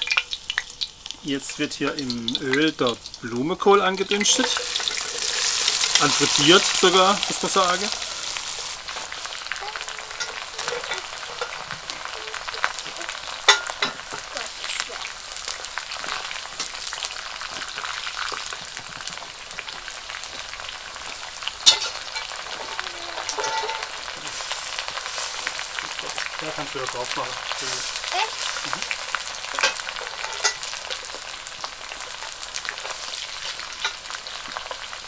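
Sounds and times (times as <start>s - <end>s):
vegetables sizzling in hot oil: 0.0s - 35.0s.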